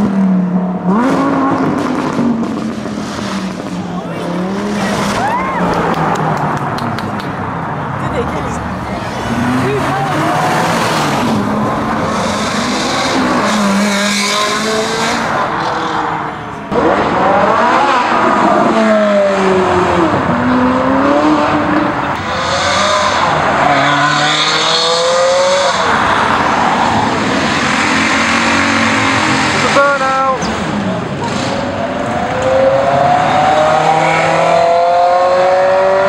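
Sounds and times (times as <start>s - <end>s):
car engines revving hard: 0.0s - 36.0s.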